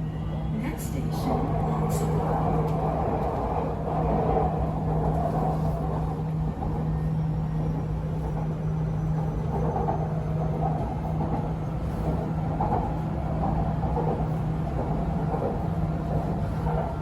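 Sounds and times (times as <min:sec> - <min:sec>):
constant train hum: 0:00.0 - 0:17.0
train cabin rumble: 0:00.0 - 0:17.0.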